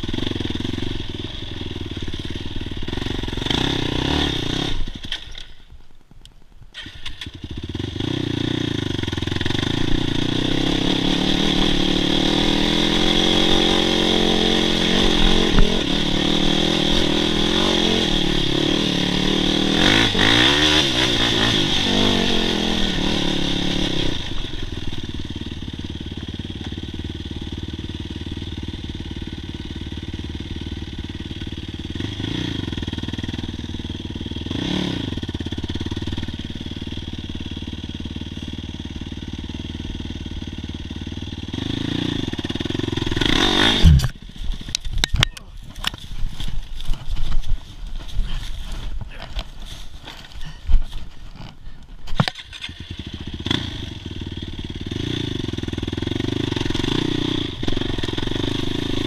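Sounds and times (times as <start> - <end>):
atv engine revving: 0.0 - 5.5, 6.8 - 47.2, 51.4 - 59.0.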